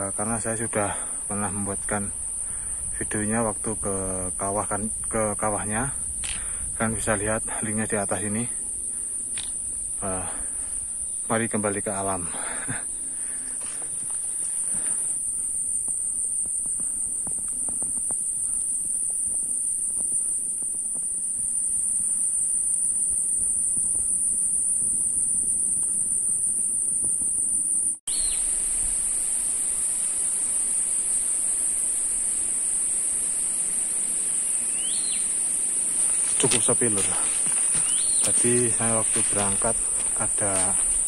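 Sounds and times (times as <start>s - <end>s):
insects droning: 0.0s - 41.0s.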